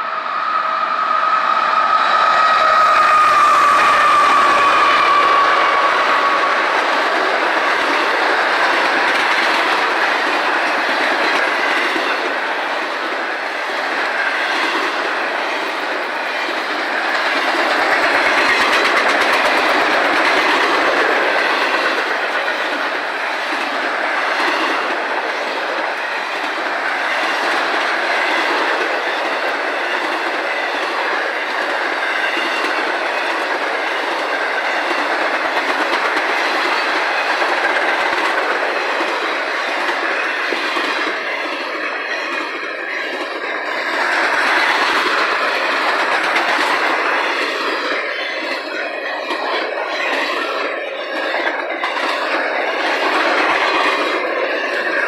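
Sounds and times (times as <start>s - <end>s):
train wheels rumbling on rail: 0.0s - 55.0s
clickety-clack over rail joints: 2.0s - 55.0s.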